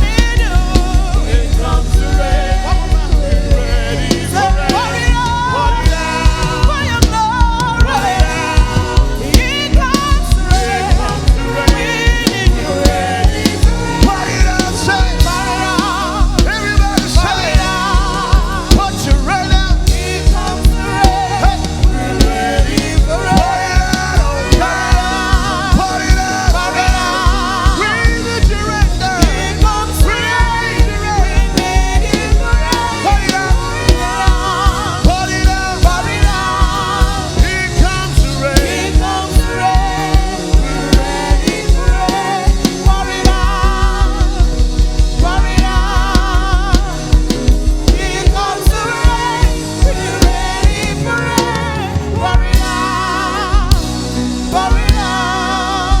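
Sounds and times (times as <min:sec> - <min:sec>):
drum kit beat: 0:00.0 - 0:56.0
voices singing gospel: 0:00.0 - 0:56.0.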